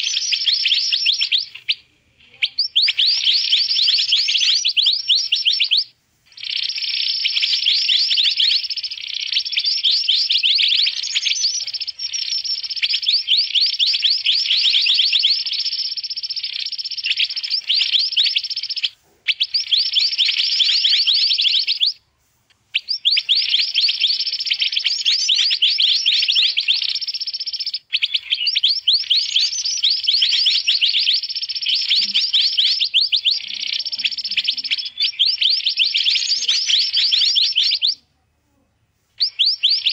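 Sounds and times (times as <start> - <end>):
bird chattering chirps: 0.0 - 22.0, 22.7 - 38.0, 39.2 - 39.9.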